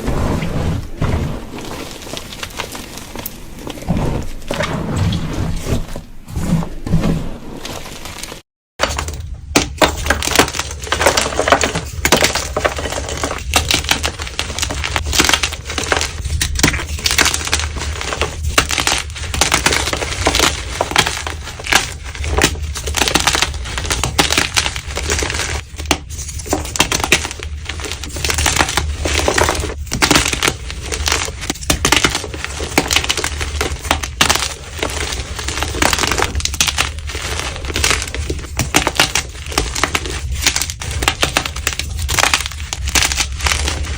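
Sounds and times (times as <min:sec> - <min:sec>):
chalk crunching and crumbling: 0:00.0 - 0:43.9.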